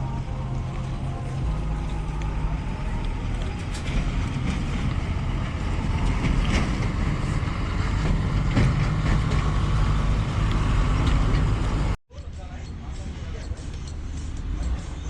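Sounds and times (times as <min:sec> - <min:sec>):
heavy vehicle engine running: 0:00.0 - 0:15.0
road noise: 0:00.0 - 0:15.0.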